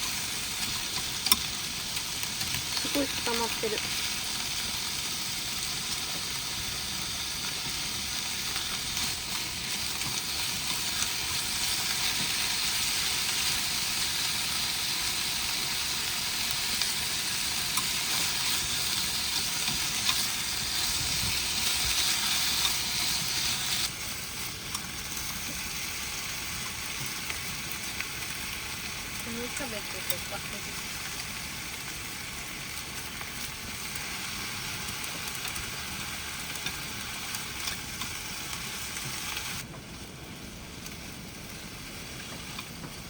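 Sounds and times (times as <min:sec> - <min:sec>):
noodles sizzling in a pan: 0:00.0 - 0:43.0.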